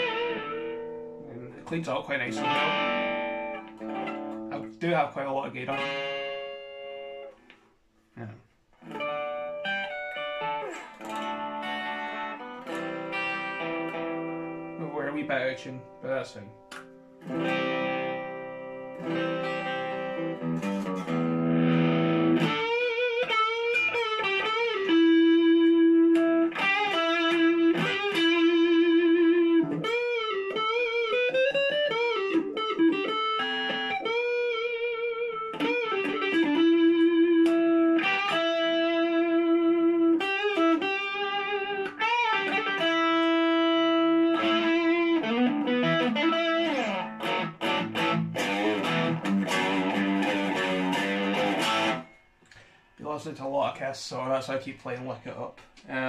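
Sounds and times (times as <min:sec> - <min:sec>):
electric guitar playing: 0:00.0 - 0:52.8.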